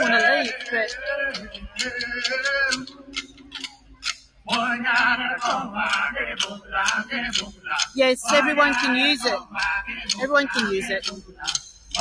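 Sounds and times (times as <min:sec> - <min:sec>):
man singing: 0:00.0 - 0:03.7, 0:04.4 - 0:12.0
sharp clicks beat: 0:00.0 - 0:12.0.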